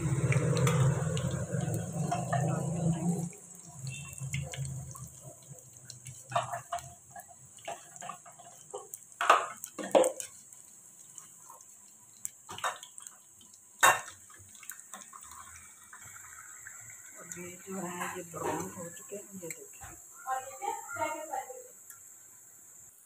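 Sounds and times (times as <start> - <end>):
oil sizzling: 0.0 - 23.0.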